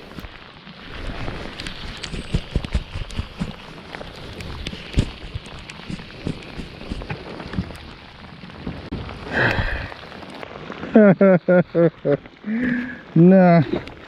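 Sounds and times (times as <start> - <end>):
heavy rain falling: 0.0 - 14.0
raindrops ticking on microphone: 0.0 - 14.0.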